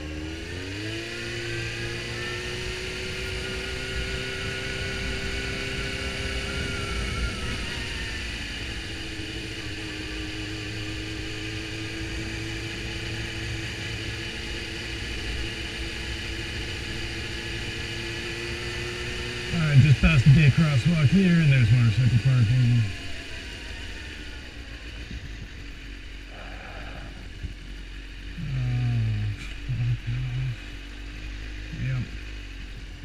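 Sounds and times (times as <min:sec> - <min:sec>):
motorcycle engine running: 0:00.0 - 0:33.0
road rumble: 0:00.0 - 0:33.0
wind: 0:00.0 - 0:33.0.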